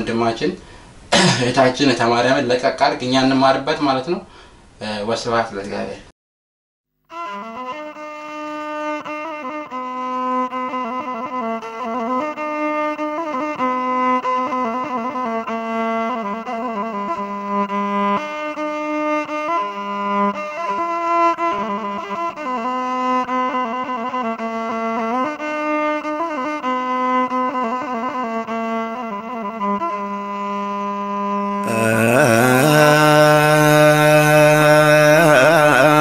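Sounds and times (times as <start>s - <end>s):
slow bowed string melody: 7.1s - 36.0s.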